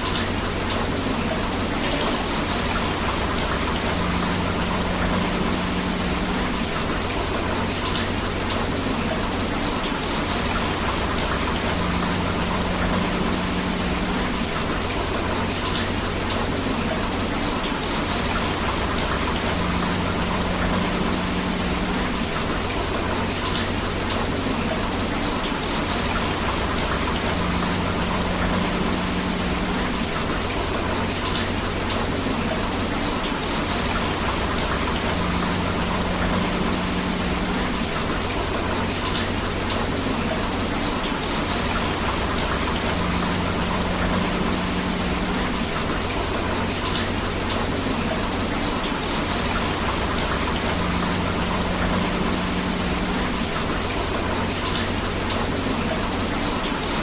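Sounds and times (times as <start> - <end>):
river running: 0.0 - 57.0
steady rain: 0.0 - 57.0.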